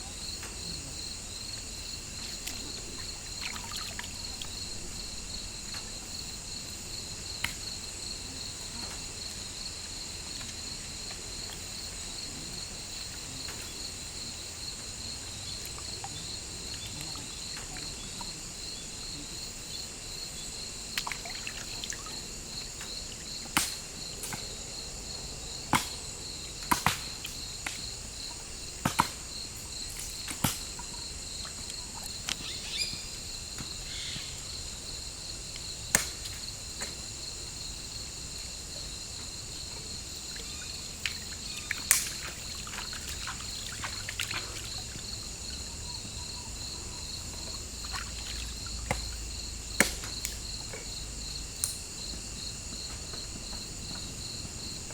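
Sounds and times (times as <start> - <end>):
forest insects chorus: 0.0 - 54.9.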